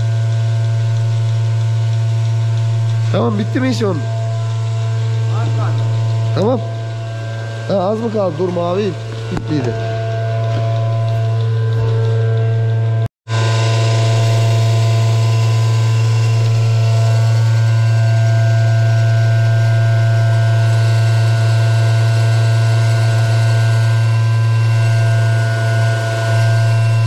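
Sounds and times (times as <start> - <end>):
loud machine hum: 0.0 - 27.0.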